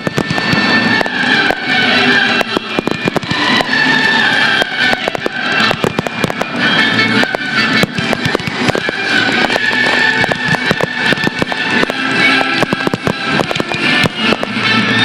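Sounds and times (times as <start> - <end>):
fireworks bursting and crackling: 0.0 - 15.0
music: 0.0 - 15.0.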